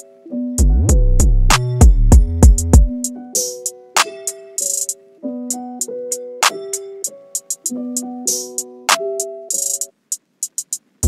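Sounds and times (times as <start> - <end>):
keyboard chords: 0.0 - 10.0
programmed beat: 0.0 - 11.0.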